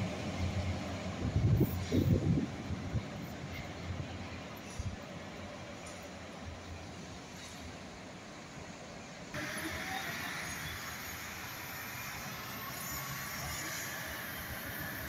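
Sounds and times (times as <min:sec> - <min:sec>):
distant electric train approaching: 0:00.0 - 0:15.0.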